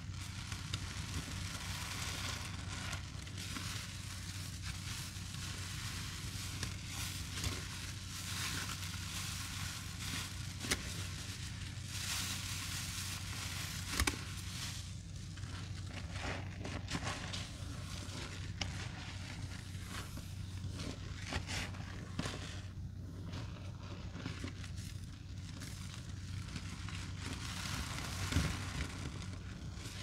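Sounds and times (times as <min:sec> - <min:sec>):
soapy sponge squishing: 0:00.0 - 0:30.0.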